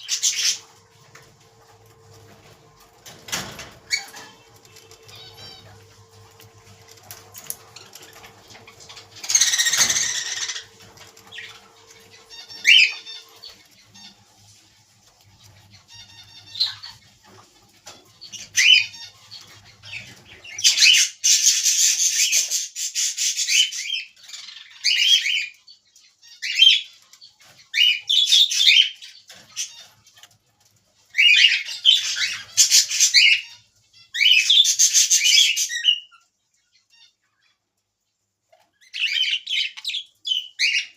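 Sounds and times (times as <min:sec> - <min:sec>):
budgerigars chirping: 0:00.0 - 0:00.7, 0:03.4 - 0:30.3, 0:31.1 - 0:37.6, 0:38.7 - 0:40.9.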